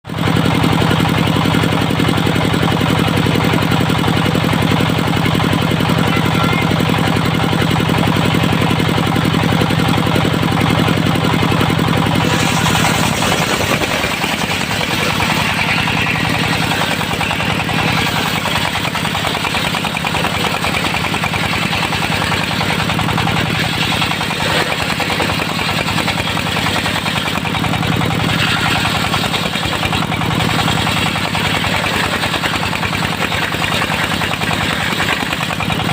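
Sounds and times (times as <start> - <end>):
sawmill engine running: 0.1 - 35.9.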